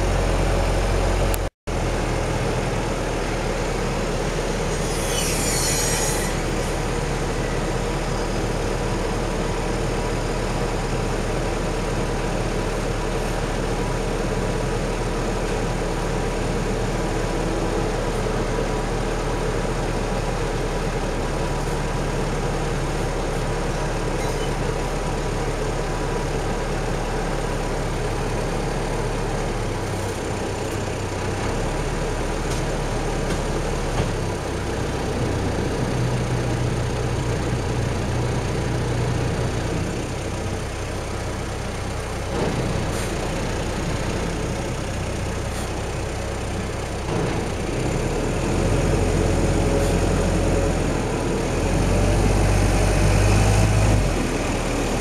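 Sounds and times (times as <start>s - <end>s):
ferry engine drone: 0.0s - 55.0s.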